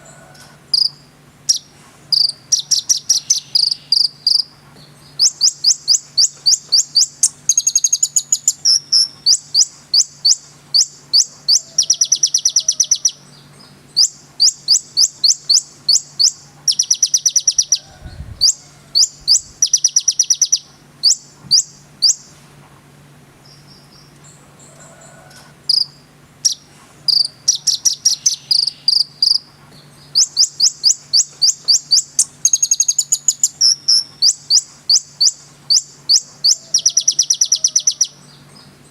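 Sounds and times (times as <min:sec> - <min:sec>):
songbird chirping: 0:00.0 - 0:22.4, 0:23.4 - 0:38.9
faint steady hum: 0:00.0 - 0:38.9.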